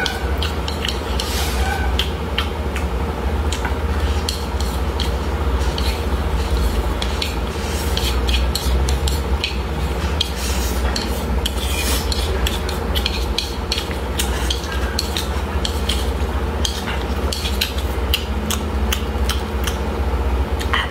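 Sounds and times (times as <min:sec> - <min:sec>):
chopsticks scraping a bowl: 0:00.0 - 0:02.5, 0:03.5 - 0:18.3.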